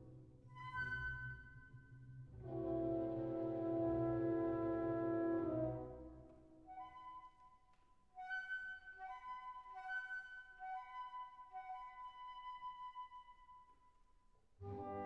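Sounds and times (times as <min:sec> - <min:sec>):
instrumental music: 0:00.5 - 0:15.0.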